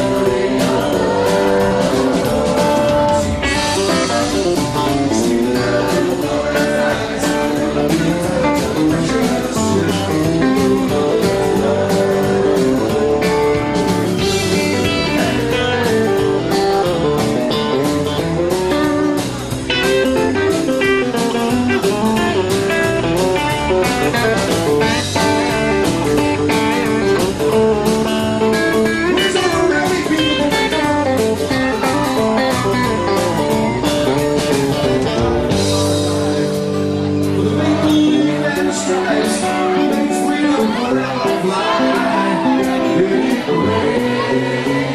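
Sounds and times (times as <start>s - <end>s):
electric and acoustic guitars: 0.0s - 44.9s
steady drum beat: 0.0s - 44.9s.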